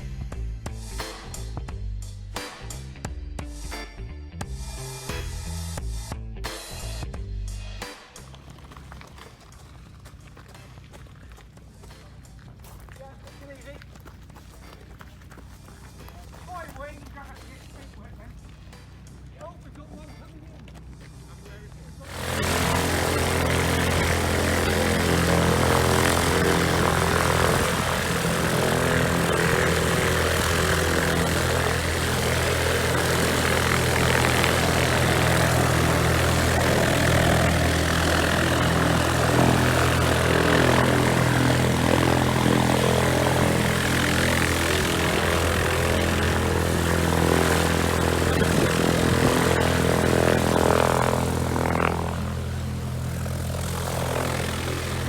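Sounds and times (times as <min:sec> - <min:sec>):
propeller aircraft engine running: 0:00.0 - 0:55.0.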